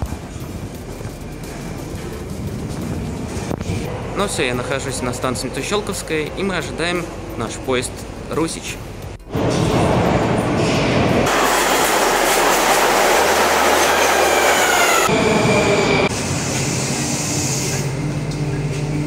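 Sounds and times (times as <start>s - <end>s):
steady train hum: 0.0s - 19.0s
subway train wheel and rail noise: 0.0s - 19.0s.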